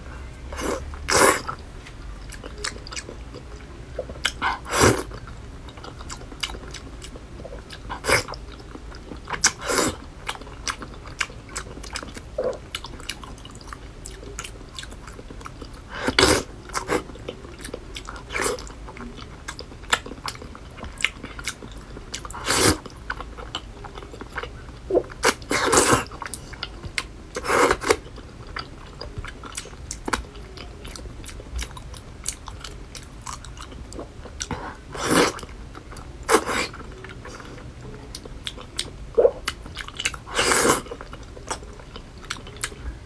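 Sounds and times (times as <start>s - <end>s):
person chewing with wet smacks: 0.6s - 43.0s.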